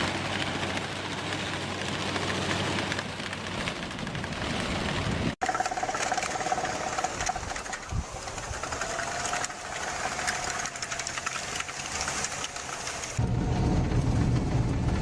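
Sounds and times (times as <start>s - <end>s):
machine engine clattering: 0.0s - 15.0s.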